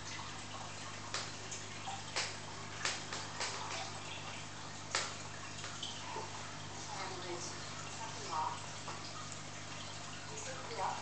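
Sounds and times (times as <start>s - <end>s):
aquarium water bubbling: 0.0s - 11.0s
sharp drip-like splashes: 0.0s - 11.0s.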